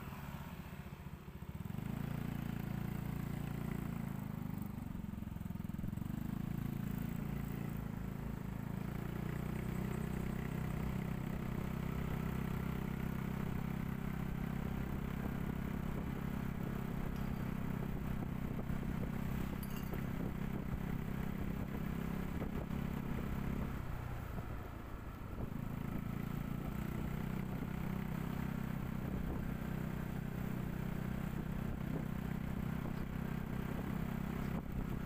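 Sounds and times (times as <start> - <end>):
road and wind noise: 0.0 - 35.0
vehicle engine running: 0.0 - 35.0.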